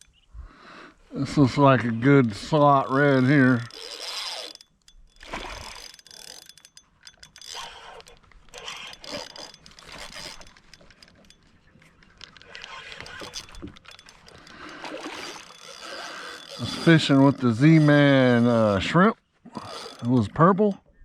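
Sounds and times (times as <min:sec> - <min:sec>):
fishing reel clicking and rattling: 0:02.5 - 0:19.0, 0:19.6 - 0:20.7.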